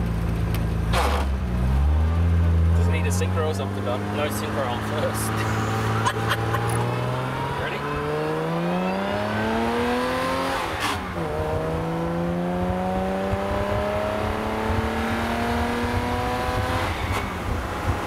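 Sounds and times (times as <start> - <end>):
car engine pulling hard: 0.0 - 18.0.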